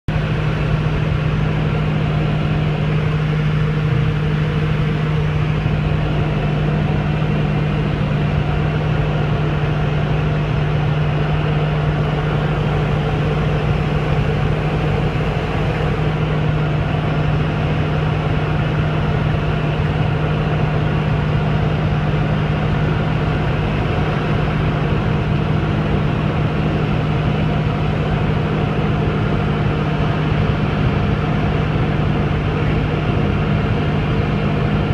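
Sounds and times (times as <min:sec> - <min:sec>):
light aircraft engine droning: 0:00.1 - 0:34.9.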